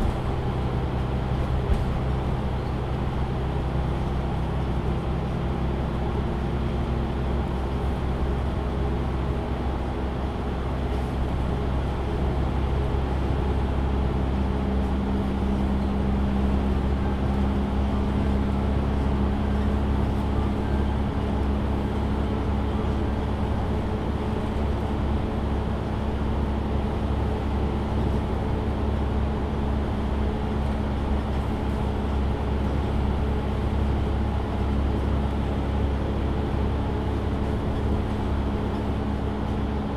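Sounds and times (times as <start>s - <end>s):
bus engine drone from inside: 0.0s - 39.9s.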